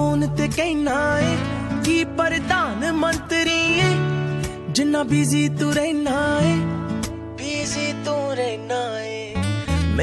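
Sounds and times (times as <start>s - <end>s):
woman singing pop song: 0.0s - 10.0s.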